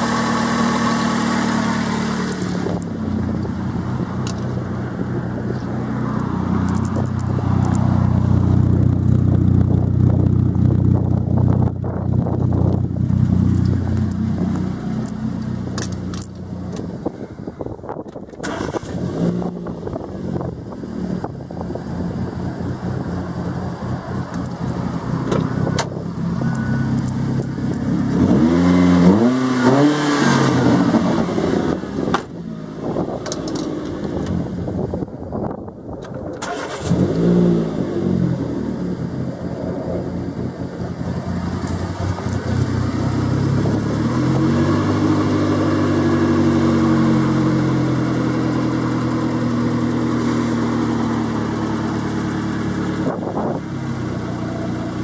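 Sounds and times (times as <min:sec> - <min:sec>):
car engine running unevenly: 0:00.0 - 0:35.6, 0:38.5 - 0:55.0.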